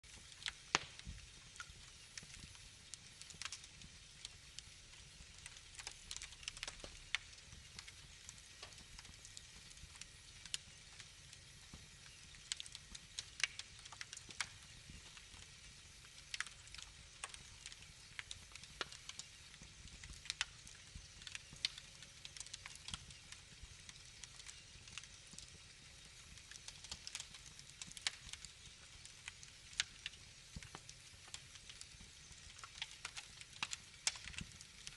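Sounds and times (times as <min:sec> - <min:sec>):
low rumble of fire: 0:00.0 - 0:34.9
wood fire crackling and popping: 0:00.0 - 0:34.9.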